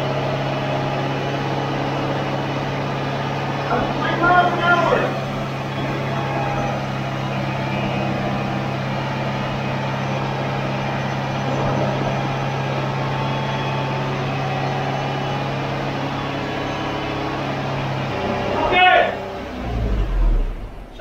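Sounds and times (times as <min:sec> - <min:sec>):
car engine idling with whine: 0:00.0 - 0:21.0.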